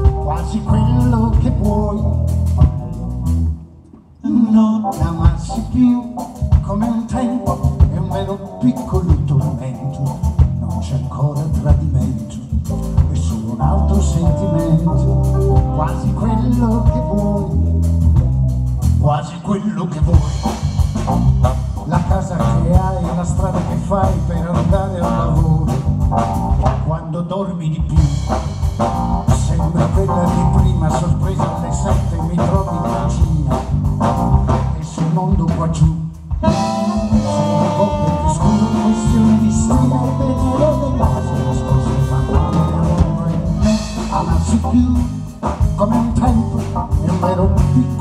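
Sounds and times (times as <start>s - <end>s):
live pop band playing: 0.0s - 48.0s.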